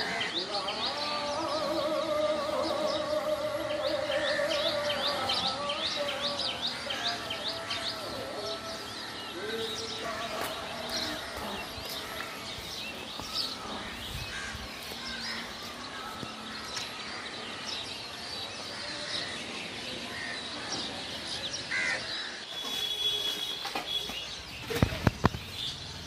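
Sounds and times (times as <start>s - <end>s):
birds chirping and whistling: 0.0s - 26.0s
outdoor background noise: 0.0s - 26.0s.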